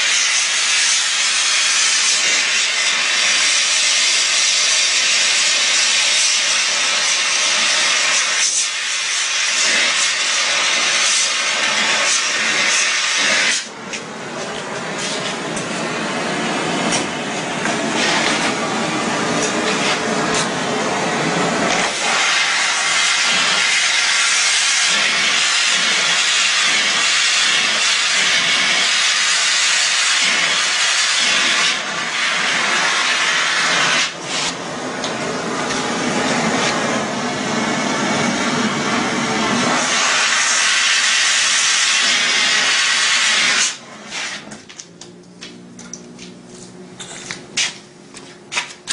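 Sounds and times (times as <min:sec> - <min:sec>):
loud steady hissing rush: 0:00.0 - 0:44.6.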